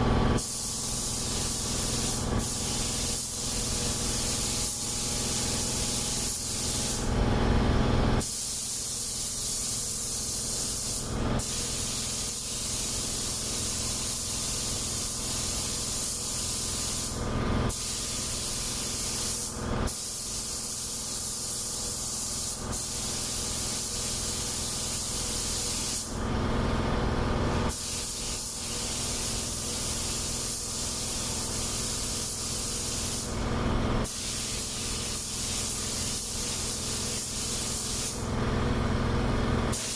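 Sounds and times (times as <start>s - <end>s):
paint spray gun hissing: 0.0s - 7.1s, 8.2s - 26.2s, 27.7s - 38.4s, 39.7s - 39.9s.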